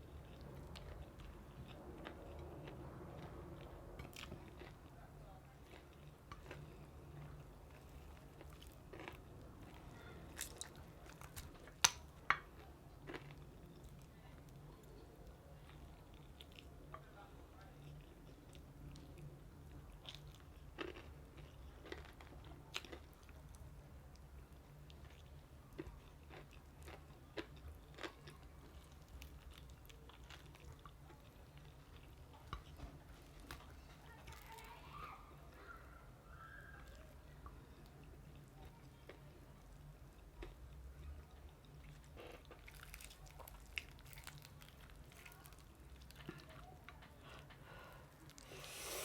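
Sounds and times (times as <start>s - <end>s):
crunching fried chicken: 0.1s - 34.9s, 40.2s - 47.5s.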